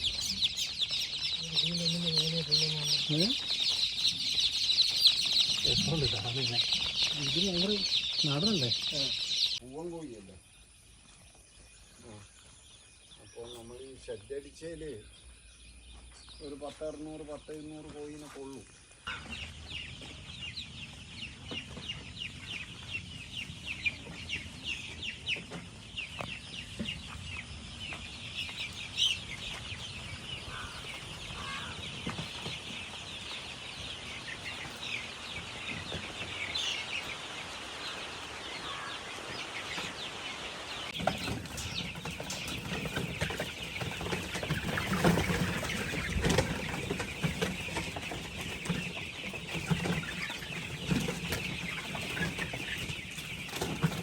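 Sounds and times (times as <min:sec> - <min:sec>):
chickens clucking and cheeping: 0:00.0 - 0:54.0.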